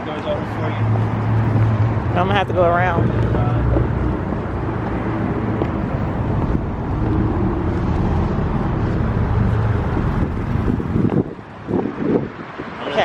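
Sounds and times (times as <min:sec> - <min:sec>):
vehicle hum and rumble: 0:00.0 - 0:13.0.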